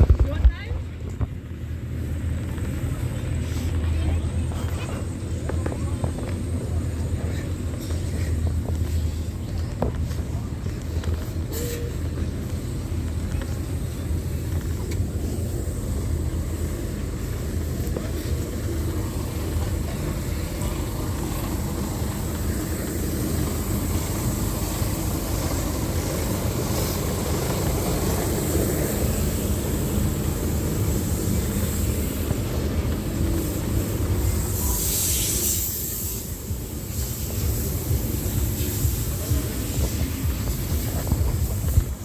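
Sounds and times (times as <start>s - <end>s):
racing engines rumbling: 0.0s - 42.0s.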